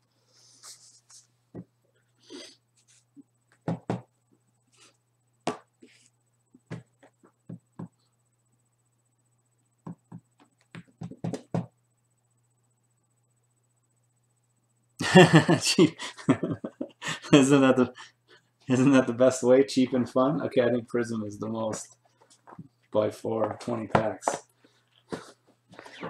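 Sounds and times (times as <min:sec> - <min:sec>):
faint high whine: 0:00.0 - 0:26.0
low electrical hum: 0:00.0 - 0:26.0.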